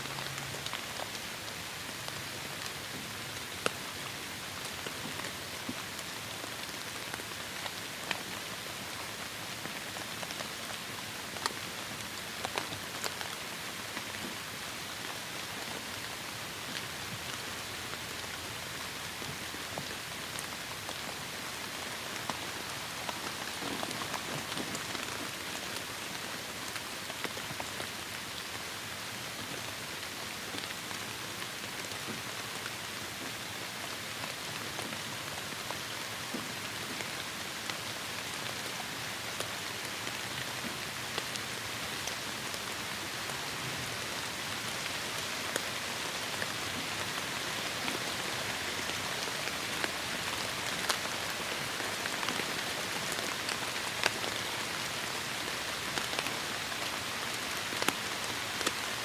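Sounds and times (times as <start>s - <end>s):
heavy rain falling: 3.4s - 28.5s, 34.4s - 59.0s.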